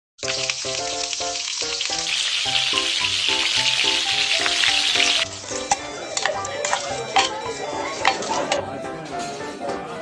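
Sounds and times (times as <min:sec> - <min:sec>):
food sizzling in a frying pan: 0:00.2 - 0:08.4
background music: 0:00.2 - 0:10.0.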